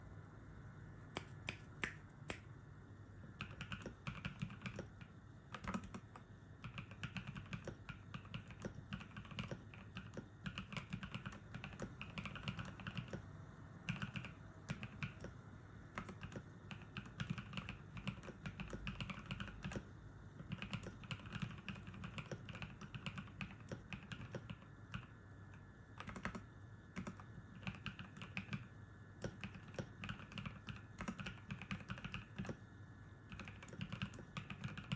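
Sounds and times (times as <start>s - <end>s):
mechanical keyboard typing: 3.4s - 13.2s, 13.8s - 25.1s, 26.0s - 32.6s, 33.3s - 34.9s.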